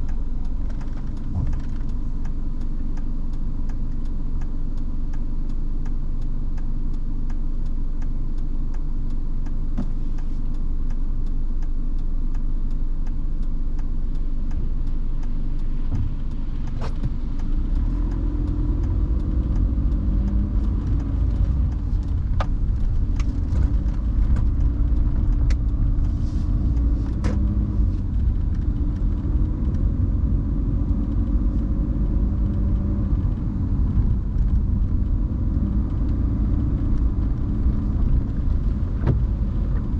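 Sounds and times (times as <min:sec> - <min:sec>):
car road and engine rumble: 0:00.0 - 0:39.9
sharp ticks: 0:00.0 - 0:39.9.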